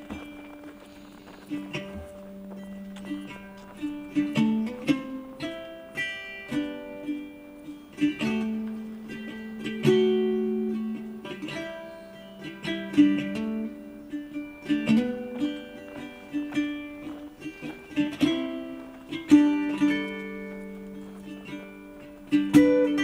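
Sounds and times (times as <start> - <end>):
plucked acoustic guitar melody: 0.0 - 23.0.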